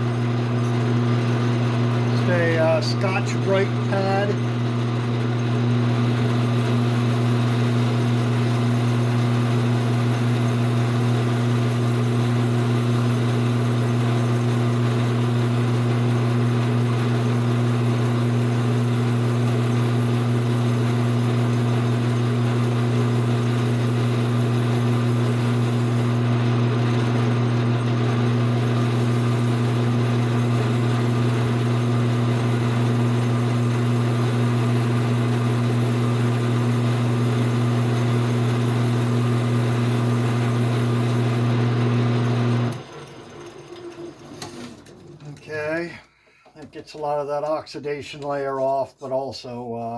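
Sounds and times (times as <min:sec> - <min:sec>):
lathe humming: 0:00.1 - 0:26.6, 0:28.1 - 0:45.3.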